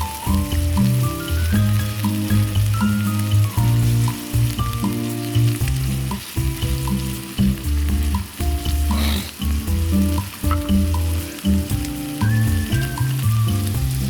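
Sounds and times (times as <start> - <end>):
background music: 0.0 - 14.0
meat sizzling in a pan: 0.0 - 14.0.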